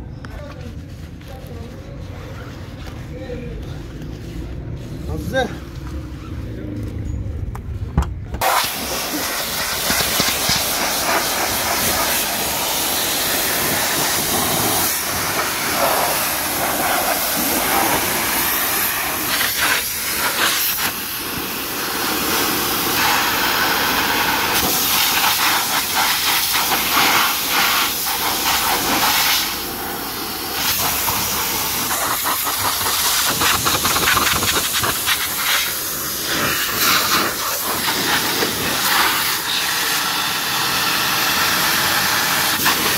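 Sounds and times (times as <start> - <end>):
pressure washer spraying water: 8.4 - 42.9.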